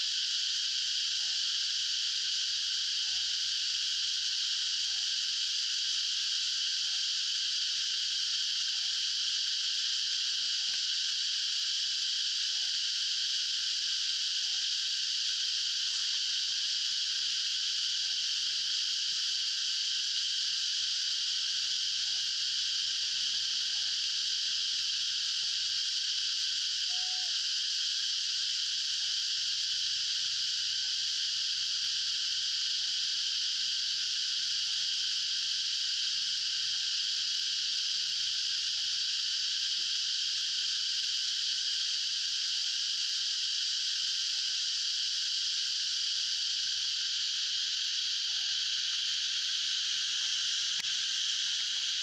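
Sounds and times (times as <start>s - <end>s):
insects calling: 0.0s - 52.0s.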